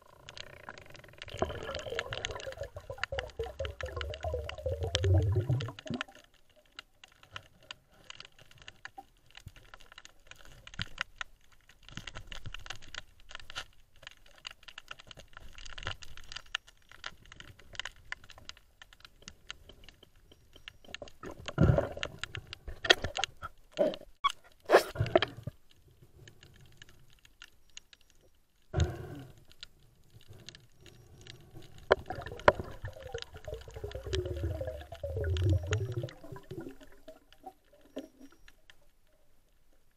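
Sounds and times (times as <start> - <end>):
underwater crackling and clicking: 0.0 - 39.9.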